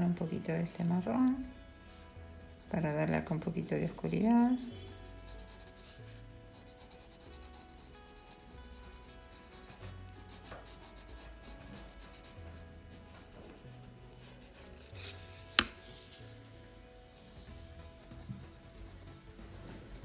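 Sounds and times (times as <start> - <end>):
soft background music: 0.0 - 20.0
colored pencil scratching on paper: 1.9 - 16.5, 17.2 - 20.0.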